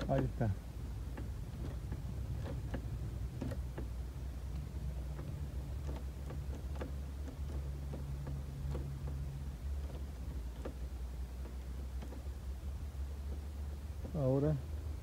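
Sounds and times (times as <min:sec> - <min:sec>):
light clicks and taps: 0:00.0 - 0:14.6
steady low hum: 0:00.0 - 0:15.0.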